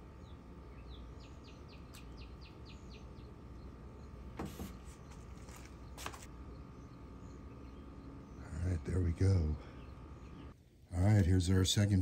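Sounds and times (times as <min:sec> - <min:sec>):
bird chirping: 0:00.0 - 0:10.6.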